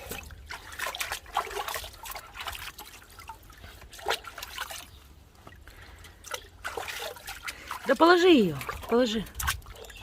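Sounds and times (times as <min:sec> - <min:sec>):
water splashing in a tub: 0:00.0 - 0:10.0.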